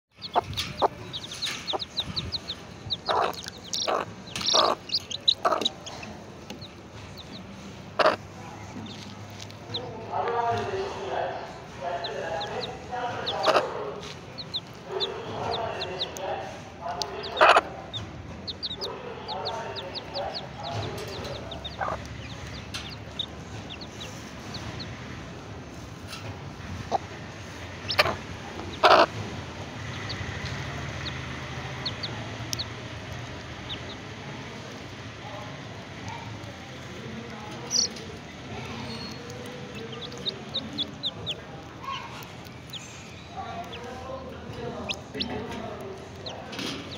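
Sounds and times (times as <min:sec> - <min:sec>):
hen clucking: 0:00.1 - 0:35.0, 0:36.9 - 0:46.9
baby chicks peeping: 0:00.1 - 0:46.9.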